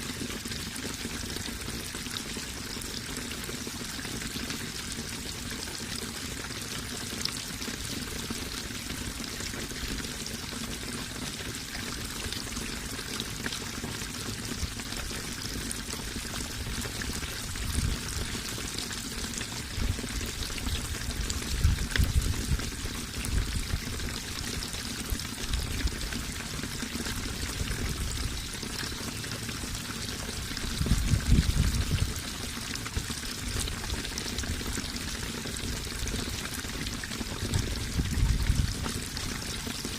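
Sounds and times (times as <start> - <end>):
water flowing and splashing: 0.0 - 39.9.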